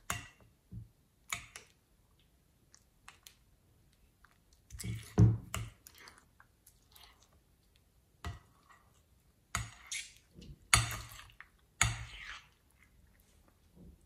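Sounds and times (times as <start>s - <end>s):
wet slime squelching: 1.3s - 14.0s.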